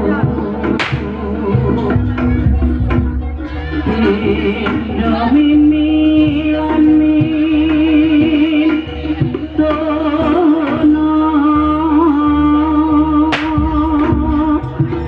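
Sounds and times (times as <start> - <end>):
drum and gong beats: 0.1 - 15.0.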